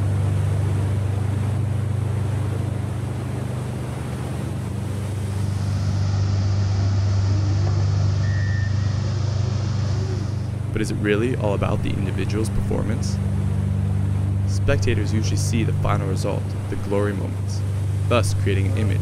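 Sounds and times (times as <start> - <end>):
waterfall and rapids roaring: 0.0 - 19.0.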